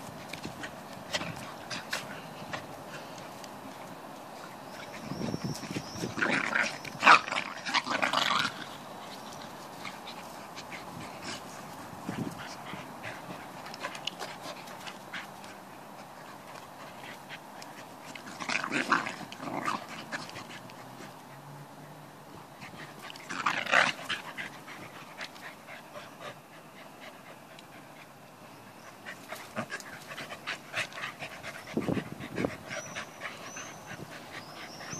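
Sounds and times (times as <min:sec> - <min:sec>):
dogs play-growling: 0:00.1 - 0:28.2, 0:28.9 - 0:34.9.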